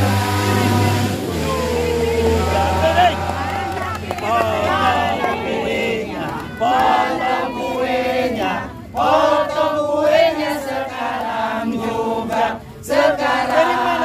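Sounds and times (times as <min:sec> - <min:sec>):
crowd singing in unison: 0:00.0 - 0:14.0.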